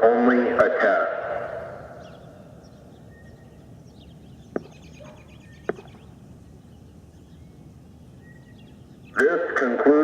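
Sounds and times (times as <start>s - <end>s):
background noise: 0.0s - 10.0s
faint birds chirping: 0.9s - 10.0s.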